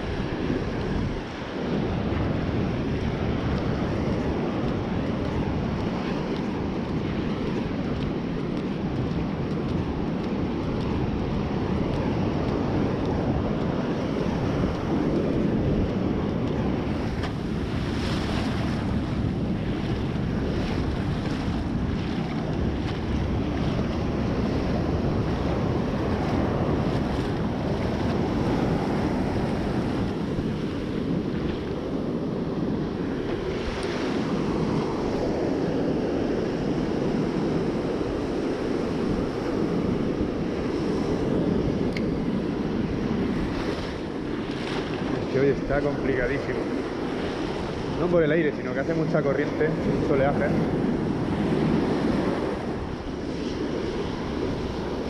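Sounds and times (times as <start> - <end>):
surf breaking on a beach: 0.0 - 55.0
wind rumbling on microphone: 0.0 - 55.0.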